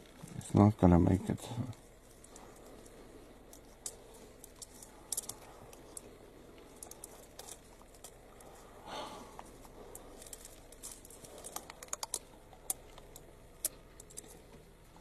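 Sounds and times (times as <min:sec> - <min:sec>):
quills rattling: 0:01.8 - 0:08.7, 0:09.4 - 0:14.9.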